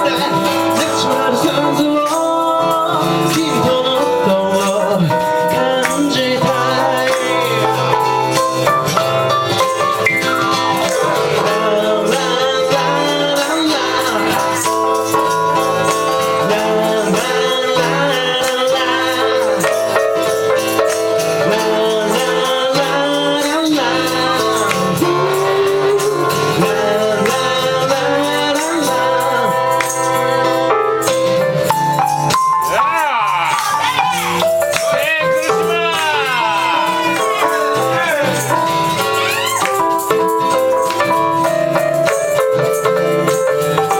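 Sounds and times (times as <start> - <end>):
person singing: 0.0 - 30.8, 32.5 - 43.9
live ragtime blues ensemble: 0.0 - 43.9.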